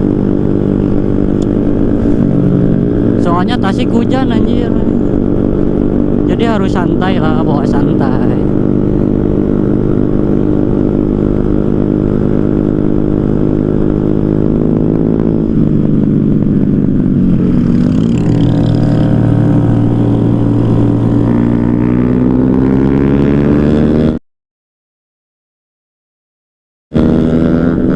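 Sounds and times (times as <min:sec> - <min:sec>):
motorcycle engine running: 0:00.0 - 0:24.2, 0:26.9 - 0:27.9.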